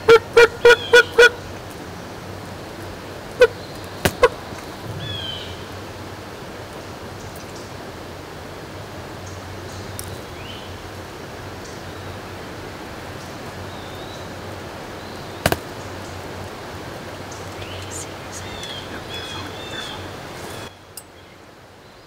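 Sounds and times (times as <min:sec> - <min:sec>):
steady hiss: 0:01.1 - 0:22.0.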